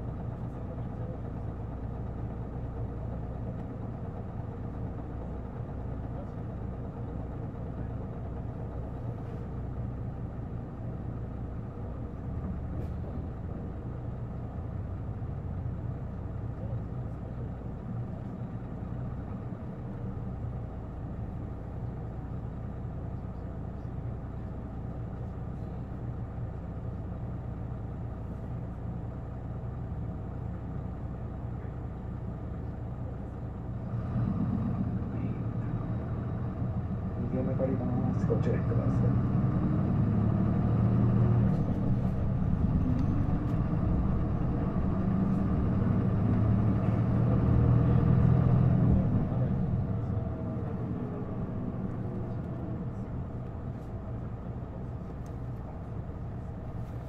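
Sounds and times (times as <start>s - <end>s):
bus engine humming: 0.0s - 57.0s.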